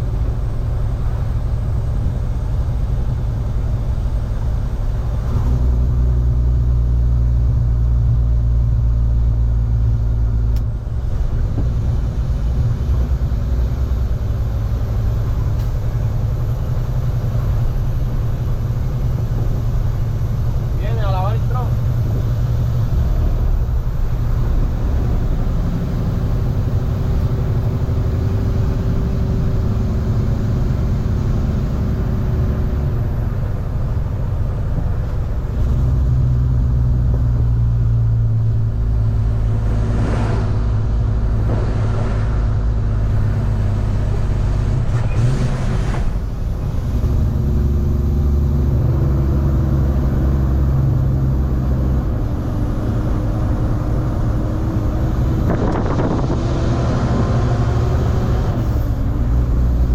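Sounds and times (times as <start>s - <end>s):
truck diesel engine rumble: 0.0s - 59.9s.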